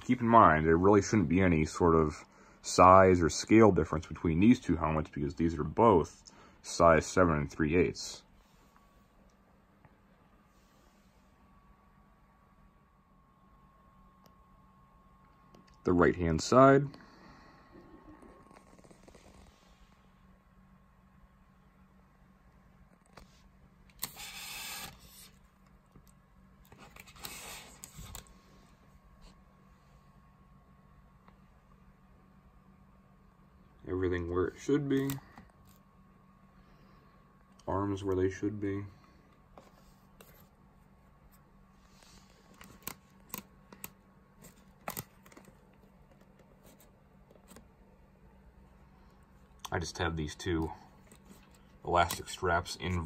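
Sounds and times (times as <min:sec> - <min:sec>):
faint room hum: 0:00.0 - 0:53.0.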